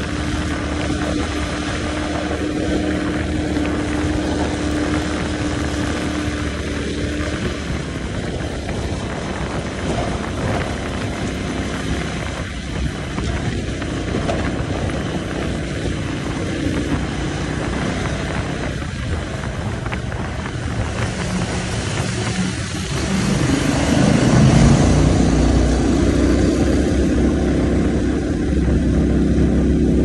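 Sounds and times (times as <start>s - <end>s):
outboard motor running: 0.0s - 30.0s
rush of wind and water: 0.0s - 30.0s.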